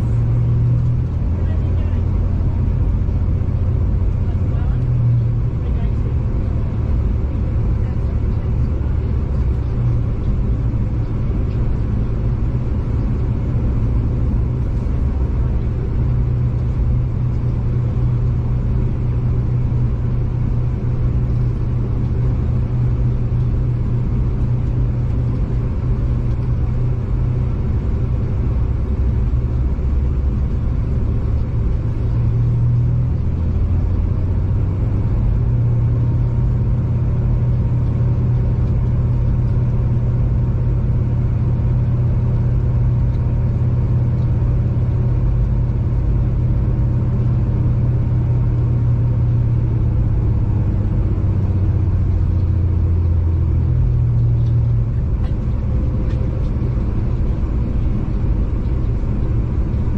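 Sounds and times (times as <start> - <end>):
diesel train engine drone: 0.0 - 59.9.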